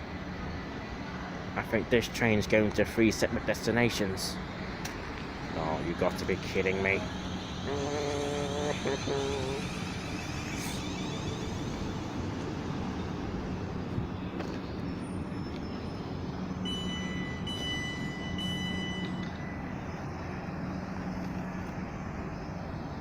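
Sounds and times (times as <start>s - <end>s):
high-pitched train whine: 0.0s - 23.0s
train rumbling: 0.0s - 23.0s.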